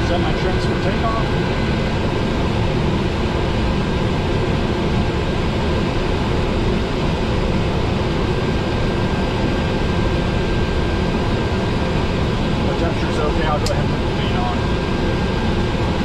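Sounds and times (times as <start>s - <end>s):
turboprop engine idling: 0.0s - 16.0s.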